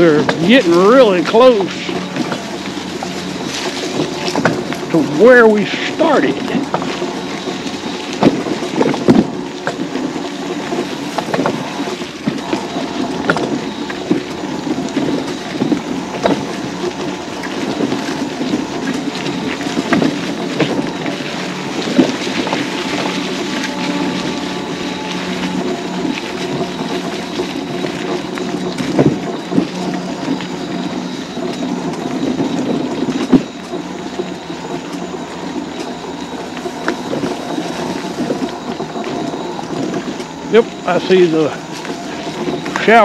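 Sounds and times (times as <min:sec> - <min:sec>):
electric motor humming: 0:00.0 - 0:43.0
knocks and rattles over bumps: 0:00.0 - 0:43.0.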